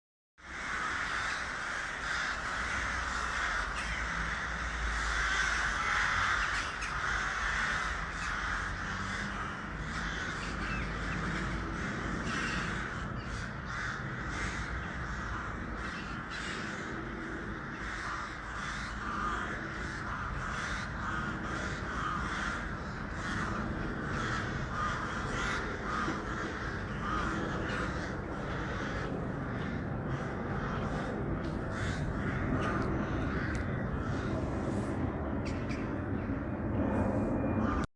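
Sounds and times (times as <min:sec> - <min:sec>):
crows cawing: 0:00.4 - 0:37.9.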